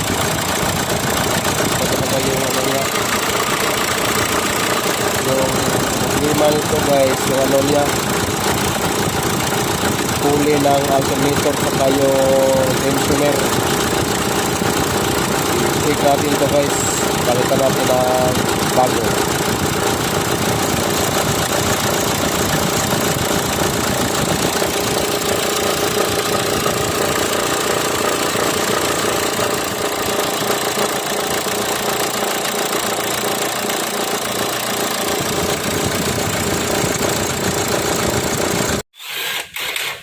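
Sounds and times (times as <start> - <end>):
car engine running: 0.0 - 38.8.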